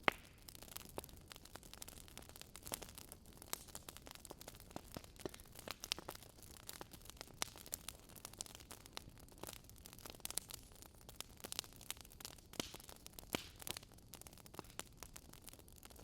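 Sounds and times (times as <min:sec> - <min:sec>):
low steady hiss: 0:00.0 - 0:16.0
wood fire crackling: 0:00.0 - 0:16.0.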